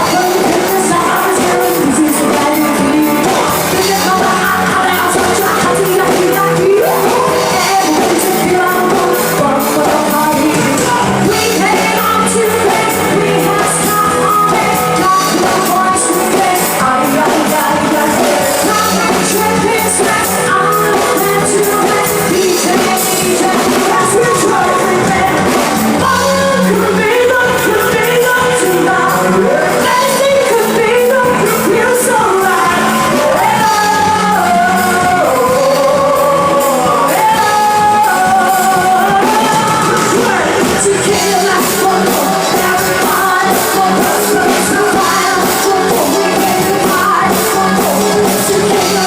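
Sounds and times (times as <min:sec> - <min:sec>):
pop music with vocals: 0:00.0 - 0:49.0.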